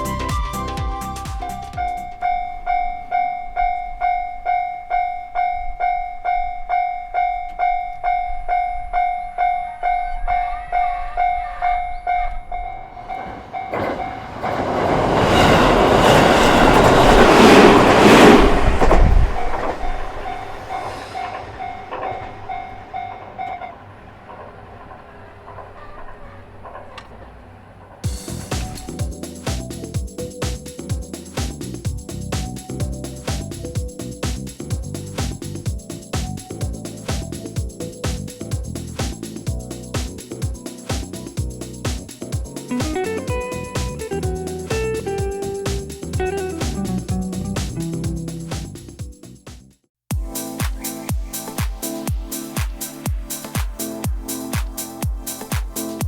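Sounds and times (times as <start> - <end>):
train passing: 0.0 - 48.8.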